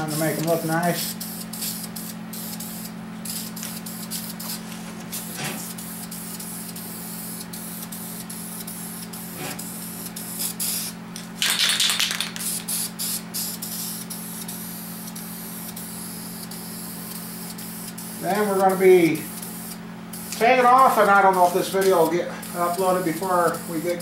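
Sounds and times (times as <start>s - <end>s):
spray-paint can hissing: 0.1s - 23.9s.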